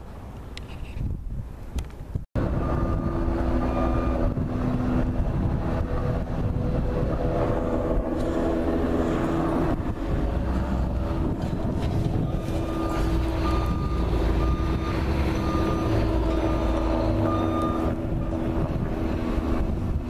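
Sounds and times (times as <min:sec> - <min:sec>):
wind on microphone: 0:00.0 - 0:20.0
engine humming: 0:02.4 - 0:20.0.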